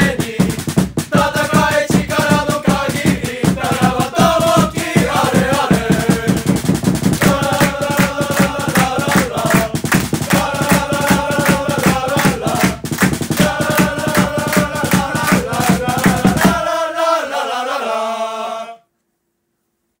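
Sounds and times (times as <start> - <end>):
group chanting in unison: 0.0 - 6.6, 7.2 - 18.8
quick drum beat: 0.0 - 16.7.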